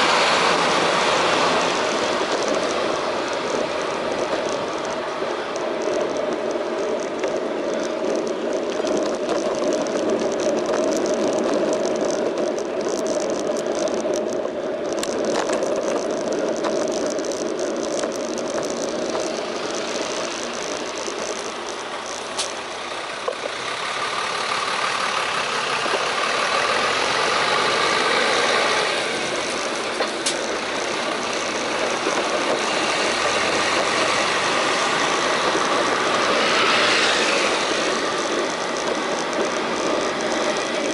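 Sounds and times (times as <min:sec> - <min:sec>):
street traffic: 0:00.0 - 0:40.9.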